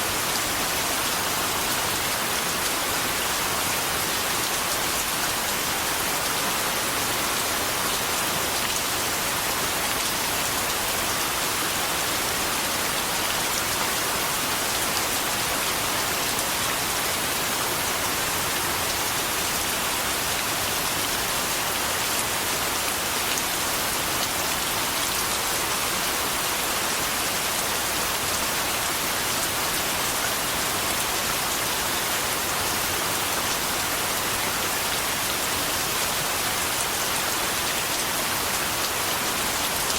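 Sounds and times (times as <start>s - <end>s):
steady rain falling on a surface: 0.0s - 39.9s.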